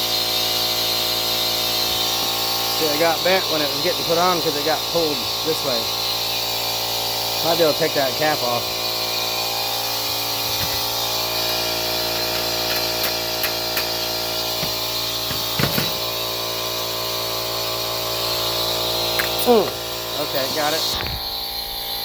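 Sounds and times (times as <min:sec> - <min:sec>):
air compressor humming: 0:00.0 - 0:22.0.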